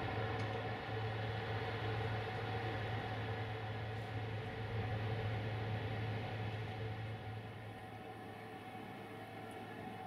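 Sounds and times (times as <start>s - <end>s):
train electric hum: 0.0s - 10.0s.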